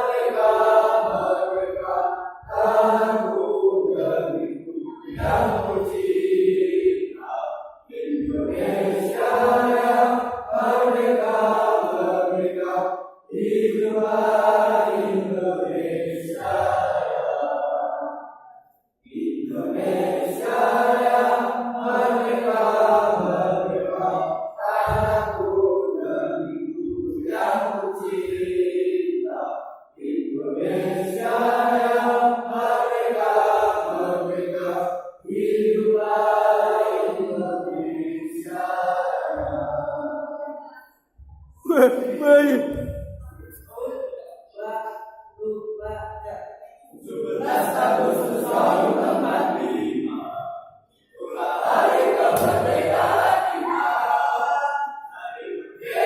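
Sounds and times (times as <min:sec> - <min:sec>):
choir singing: 0:00.0 - 0:50.6, 0:51.2 - 0:56.0.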